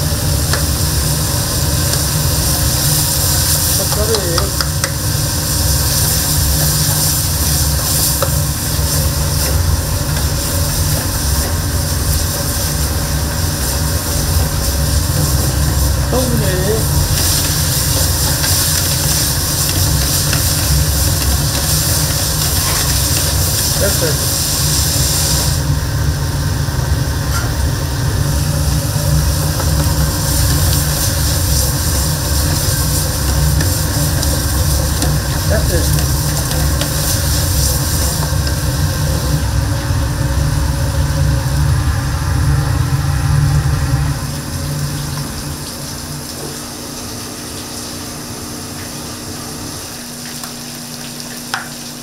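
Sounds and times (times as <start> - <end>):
food sizzling in a pan: 0.0 - 43.5, 44.3 - 52.0
gas burner hiss: 0.0 - 46.8
low roar of kitchen cooking: 0.0 - 52.0.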